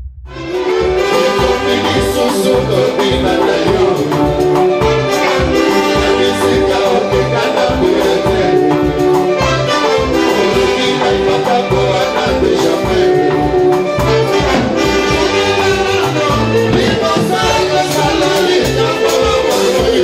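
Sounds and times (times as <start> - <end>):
live band with horns and percussion: 0.3 - 20.0.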